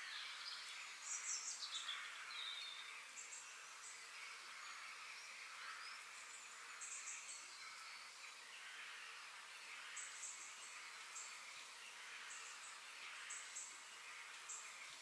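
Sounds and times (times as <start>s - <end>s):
high background hiss: 0.0s - 15.0s.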